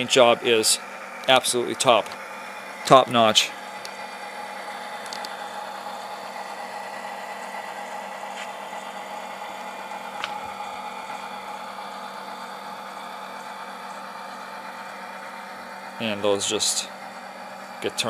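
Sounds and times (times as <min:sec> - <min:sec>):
diesel idling hum from speaker: 0:00.0 - 0:18.0.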